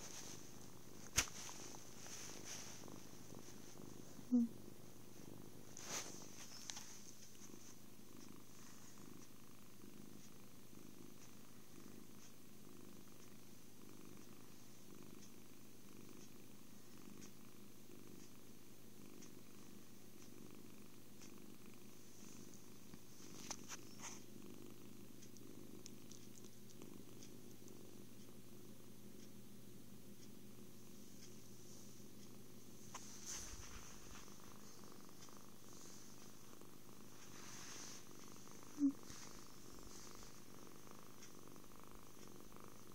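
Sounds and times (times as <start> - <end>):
kitten purring: 0.0 - 42.9.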